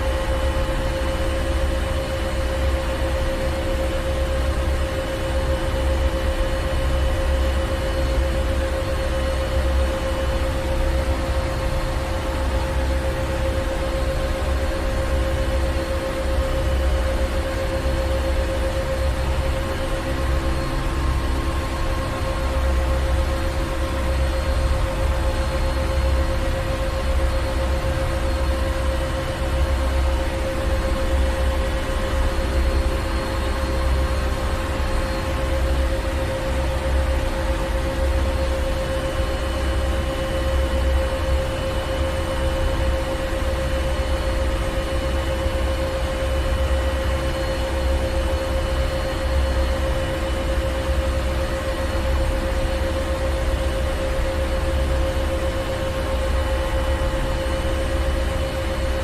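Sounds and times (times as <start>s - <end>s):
constant mechanical hum: 0.0s - 59.0s.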